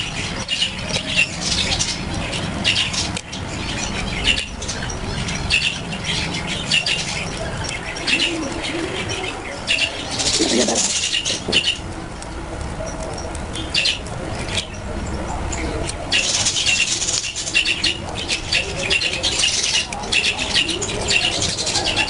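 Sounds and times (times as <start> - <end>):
budgerigars chirping: 0.0 - 22.0.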